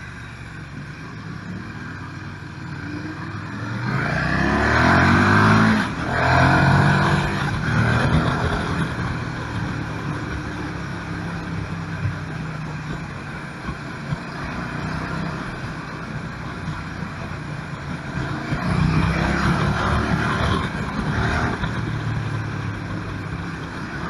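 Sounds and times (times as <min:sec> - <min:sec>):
motorcycle engine accelerating: 0:00.8 - 0:24.0.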